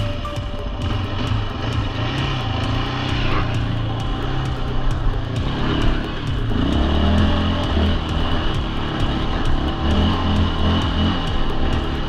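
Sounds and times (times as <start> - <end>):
quad bike engine revving: 0.6 - 12.0.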